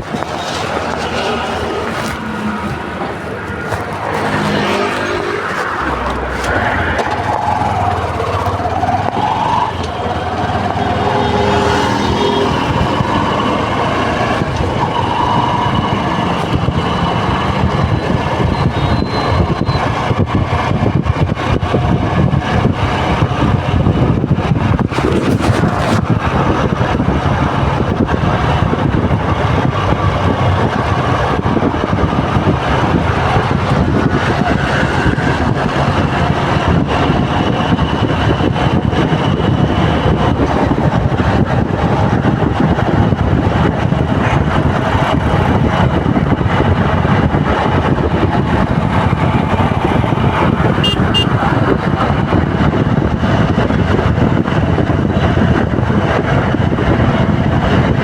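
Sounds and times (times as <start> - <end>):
heavy road traffic: 0.0 - 58.0.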